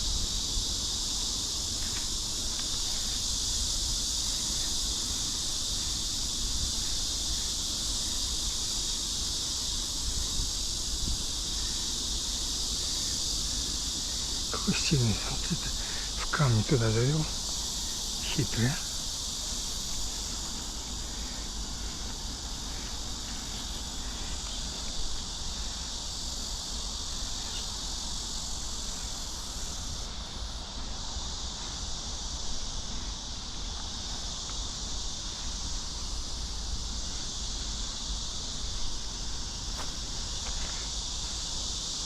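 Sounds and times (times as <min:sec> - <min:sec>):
high-pitched insect chorus: 0:00.0 - 0:42.0.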